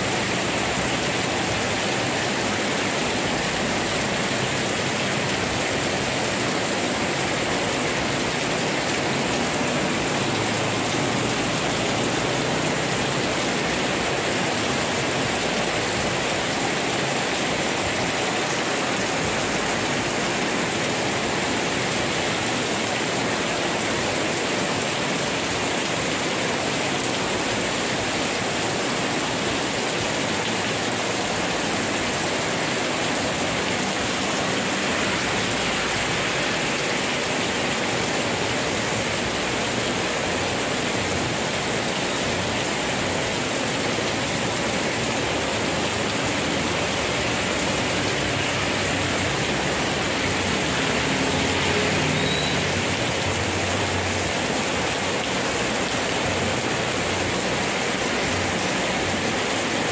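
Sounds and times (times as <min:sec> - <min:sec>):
heavy rain on street and awning: 0:00.0 - 0:59.9.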